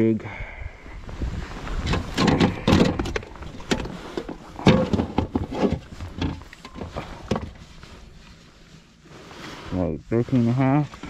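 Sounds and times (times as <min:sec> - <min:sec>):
rustling: 0:01.1 - 0:11.0.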